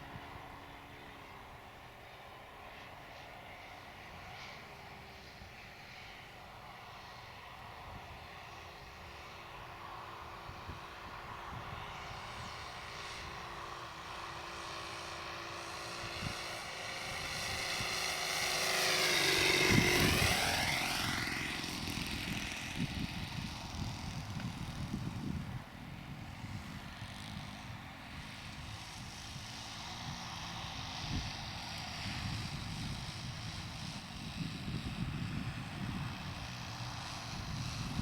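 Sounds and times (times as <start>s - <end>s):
model airplane engine passing: 0.0s - 38.0s.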